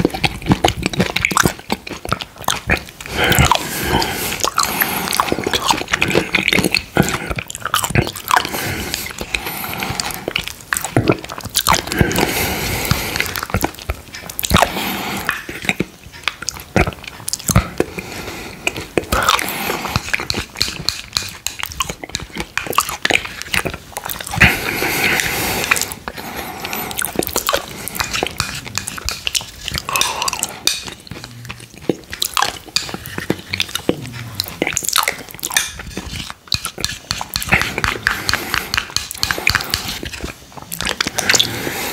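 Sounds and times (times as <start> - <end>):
wet mouth eating sounds: 0.0 - 41.9.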